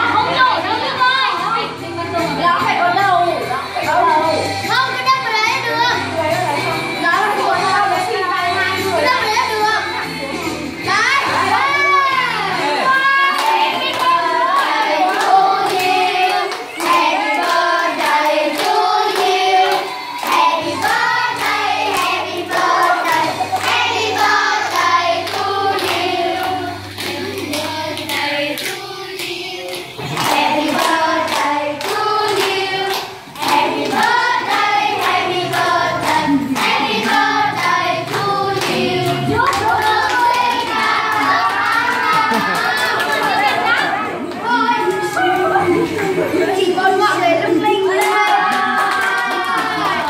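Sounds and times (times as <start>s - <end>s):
group singing a celebration song: 6.2s - 50.0s.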